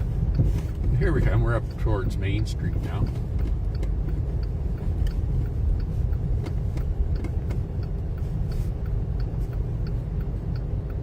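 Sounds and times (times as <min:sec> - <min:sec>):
car engine and road rumble: 0:00.0 - 0:11.0
faint regular ticks: 0:00.1 - 0:11.0.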